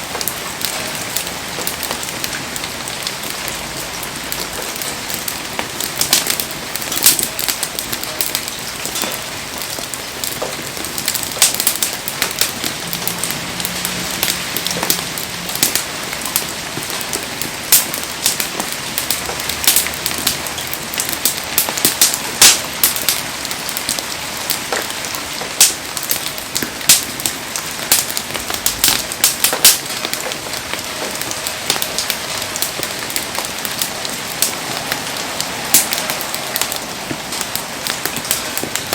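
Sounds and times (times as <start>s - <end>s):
campfire crackling and popping: 0.0s - 38.9s
heavy rain hissing: 0.0s - 38.9s.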